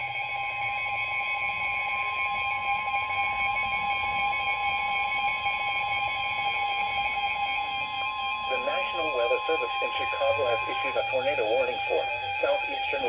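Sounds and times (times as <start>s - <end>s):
steady two-tone alarm: 0.0s - 13.0s.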